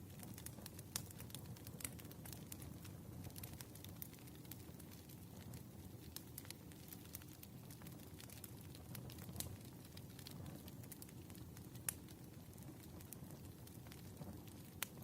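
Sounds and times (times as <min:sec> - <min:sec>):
low rumble of fire: 0:00.0 - 0:15.0
wood fire crackling: 0:00.0 - 0:15.0.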